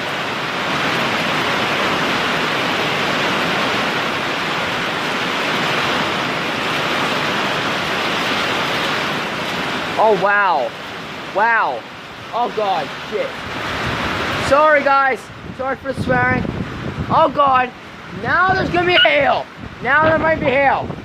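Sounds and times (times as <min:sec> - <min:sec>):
heavy rain downpour: 0:00.0 - 0:21.0
strong wind: 0:00.0 - 0:21.0.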